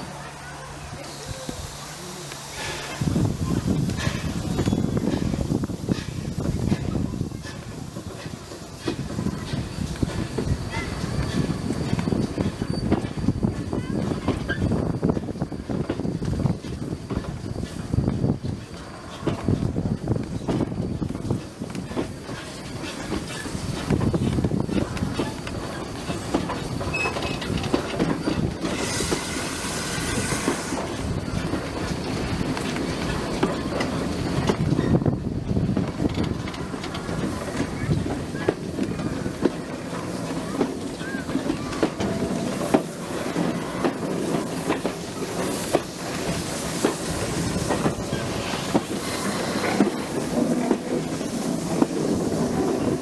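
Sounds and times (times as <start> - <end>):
steam hissing: 0.0 - 53.0
train rumble: 0.0 - 53.0
wheels clicking over rail joints: 2.3 - 29.4, 30.6 - 53.0.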